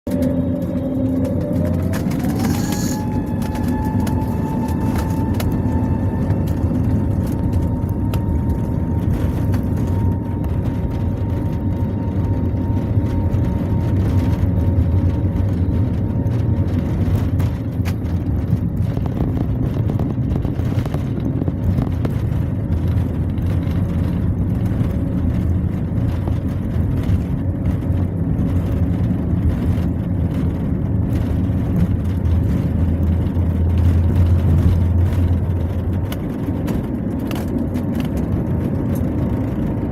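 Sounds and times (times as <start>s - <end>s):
airliner cabin rumble: 0.0s - 39.9s
thin engine whine: 0.1s - 39.9s.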